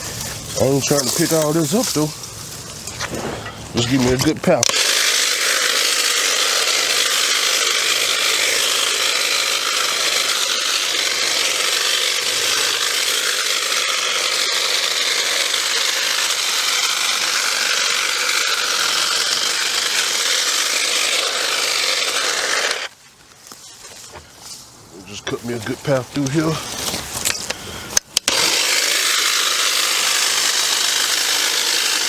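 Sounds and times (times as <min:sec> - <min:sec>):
chainsaw cutting brush: 0:00.0 - 0:32.0.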